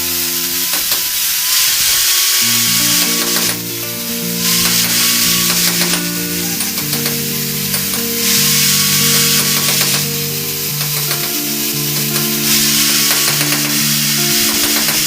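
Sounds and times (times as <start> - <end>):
loud hiss: 0.0 - 15.0
sustained music notes: 2.4 - 15.0.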